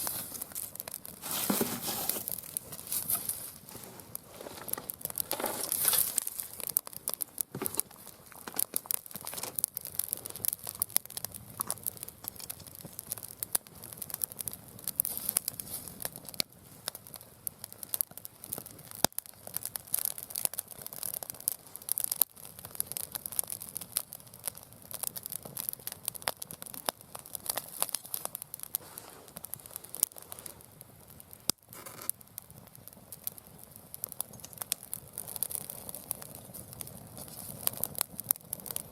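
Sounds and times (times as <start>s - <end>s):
fire hissing: 0.0s - 24.2s, 24.9s - 32.4s, 33.2s - 38.9s
wood fire crackling and popping: 0.0s - 38.9s.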